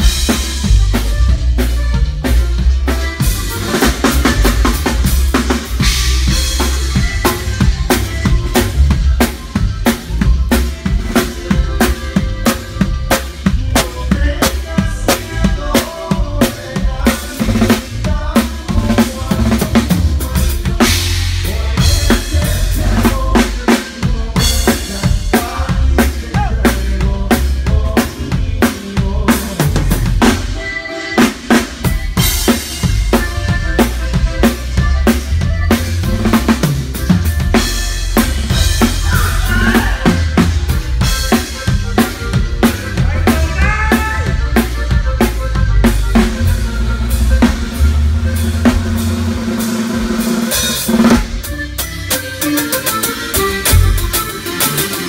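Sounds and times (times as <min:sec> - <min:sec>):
guitar playing: 0:00.0 - 0:28.6, 0:29.3 - 0:55.0
accordion: 0:00.0 - 0:55.0
drum kit beat: 0:00.0 - 0:55.0.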